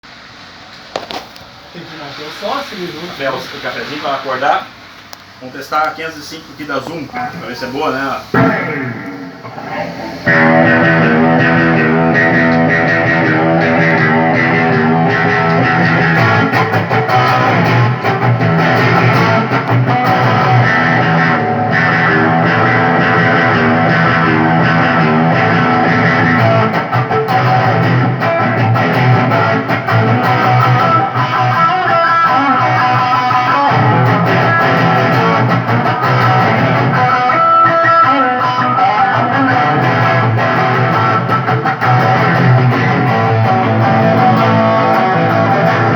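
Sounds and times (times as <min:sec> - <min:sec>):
electric guitar with effects: 0:06.8 - 0:45.9.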